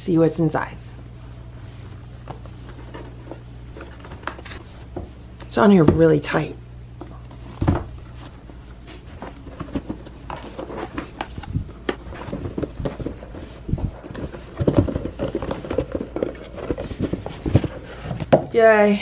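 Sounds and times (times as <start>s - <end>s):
cardboard rubbing and scraping: 1.7s - 6.2s, 7.2s - 18.4s.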